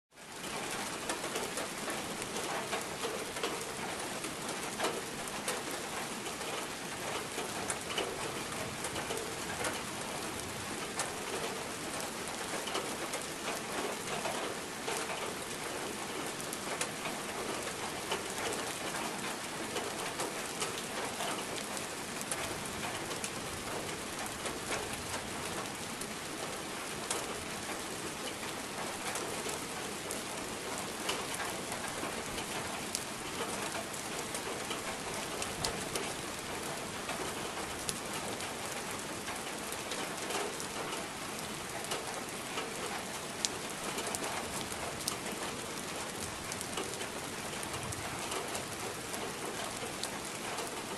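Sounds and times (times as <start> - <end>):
steady rain falling: 0.1 - 50.9.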